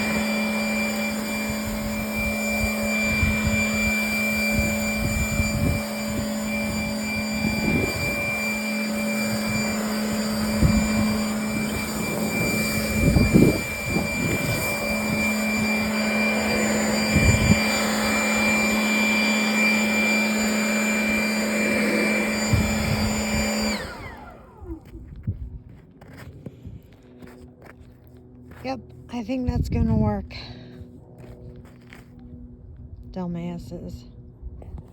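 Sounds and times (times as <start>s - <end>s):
electric blower motor whine: 0.0s - 34.9s.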